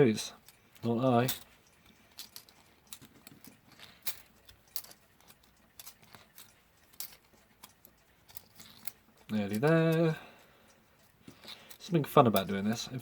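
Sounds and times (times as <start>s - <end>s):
metallic clicks of clock spring: 0.0s - 13.0s.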